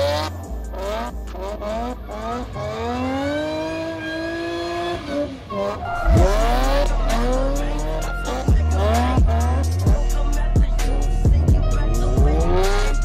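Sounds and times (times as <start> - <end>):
hip-hop beat: 0.0 - 5.0, 5.9 - 13.0
car engine revving: 0.0 - 13.0.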